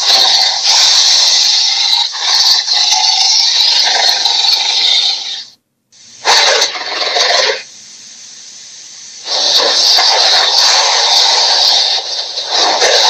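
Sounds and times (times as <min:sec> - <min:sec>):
hissing monster sound effect: 0:00.0 - 0:05.5, 0:06.2 - 0:07.7, 0:09.1 - 0:13.0.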